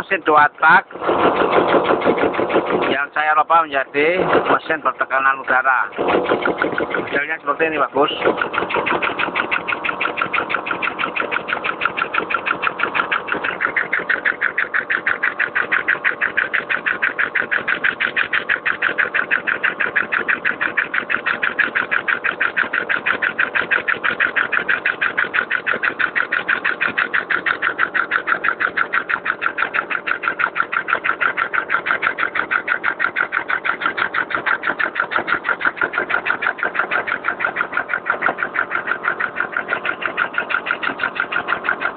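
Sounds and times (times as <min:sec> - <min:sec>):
air-powered motorcycle engine running: 0:00.0 - 0:41.9.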